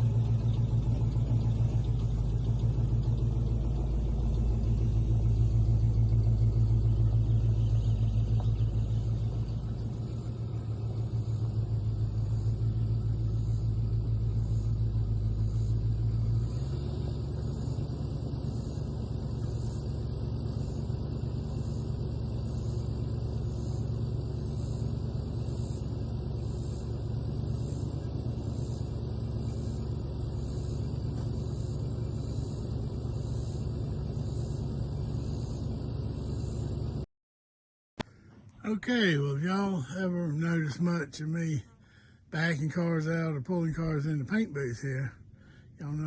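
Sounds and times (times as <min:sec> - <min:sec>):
engine droning: 0:00.0 - 0:37.1, 0:38.0 - 0:46.0.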